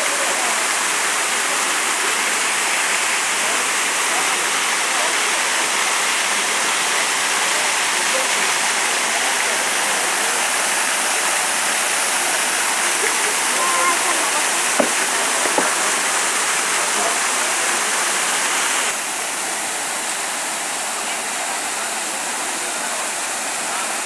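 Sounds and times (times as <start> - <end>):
waterfall rushing into pond: 0.0 - 24.0.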